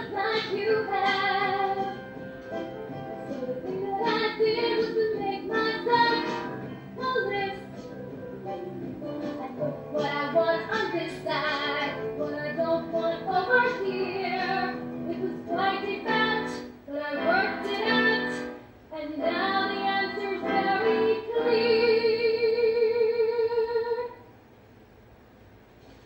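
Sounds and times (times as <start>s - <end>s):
women singing: 0.0s - 2.0s, 3.2s - 7.8s, 8.5s - 24.2s.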